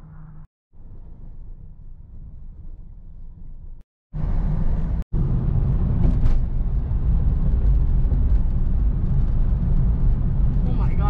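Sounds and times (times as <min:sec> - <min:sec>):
car road noise: 0:00.0 - 0:11.0.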